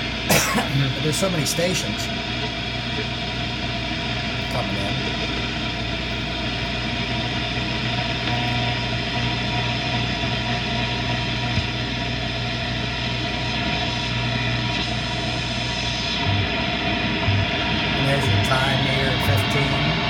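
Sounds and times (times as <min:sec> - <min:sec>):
low hum: 0:00.0 - 0:20.0
shortwave radio static: 0:00.0 - 0:20.0.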